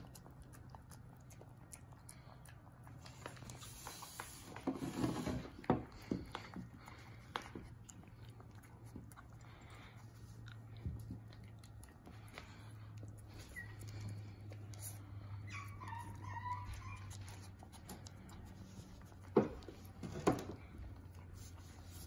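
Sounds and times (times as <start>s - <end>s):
puppy chewing and lapping: 0.0s - 22.0s.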